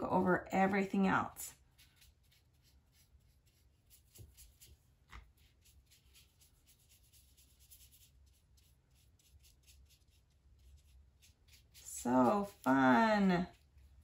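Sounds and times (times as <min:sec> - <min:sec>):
paintbrush brushing on paper: 0:00.2 - 0:14.0.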